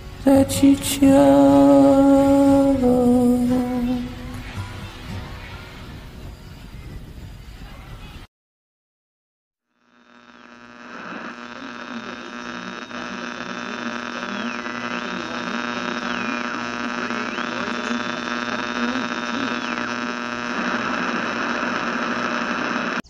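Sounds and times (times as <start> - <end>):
high whine wavering in pitch: 0.0 - 6.9, 9.9 - 23.0
electrical mains hum: 0.0 - 7.7, 10.0 - 23.0.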